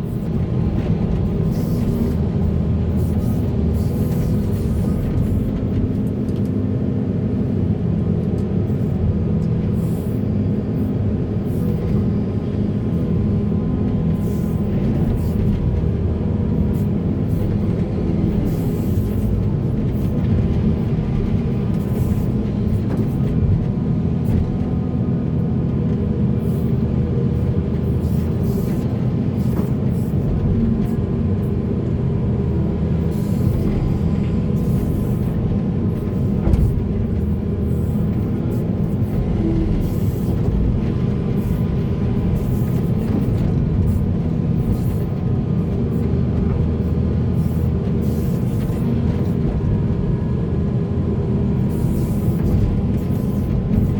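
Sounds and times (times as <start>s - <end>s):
heavy diesel machinery rumbling: 0.0s - 53.9s.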